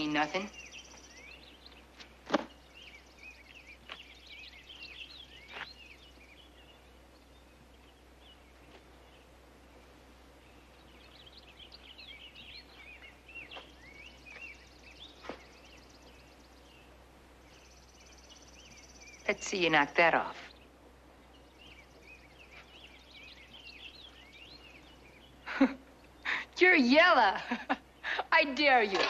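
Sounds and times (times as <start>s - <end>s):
faint low hum: 0.0s - 29.0s
small birds chirping: 0.0s - 29.0s.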